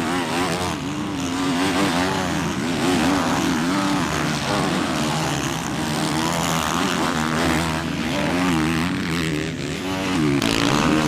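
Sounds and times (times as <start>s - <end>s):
motocross bike engines racing: 0.0s - 11.0s.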